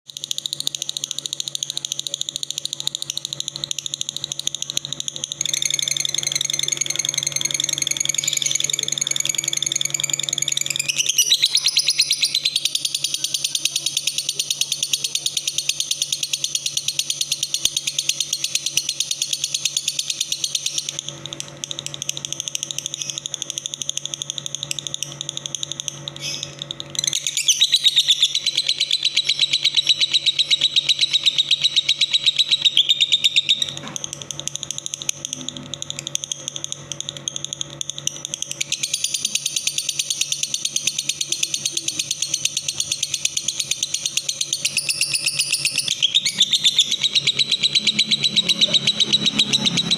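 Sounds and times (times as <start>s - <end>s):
faint low hum: 0.1s - 49.9s
insects trilling: 0.1s - 49.9s.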